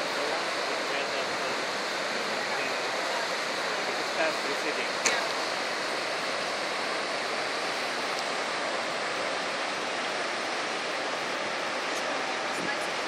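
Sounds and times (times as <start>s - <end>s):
river rapids rushing over rocks: 0.0s - 13.0s.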